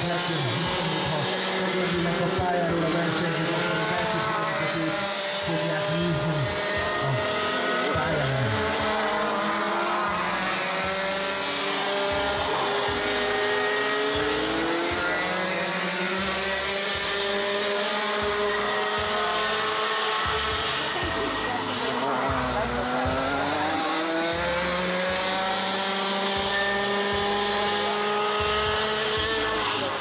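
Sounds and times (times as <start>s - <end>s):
kart engines racing: 0.0s - 30.0s.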